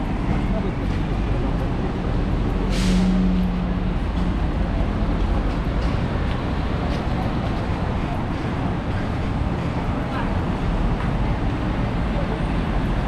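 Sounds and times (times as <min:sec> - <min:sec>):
passing vehicles rumbling: 0:00.0 - 0:13.0.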